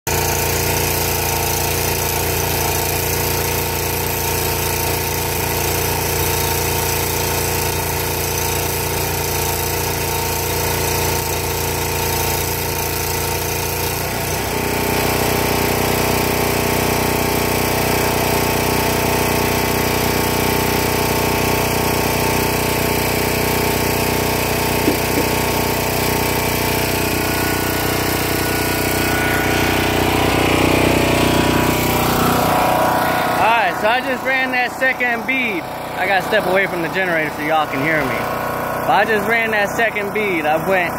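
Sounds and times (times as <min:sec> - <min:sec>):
welding generator engine running: 0:00.1 - 0:40.9.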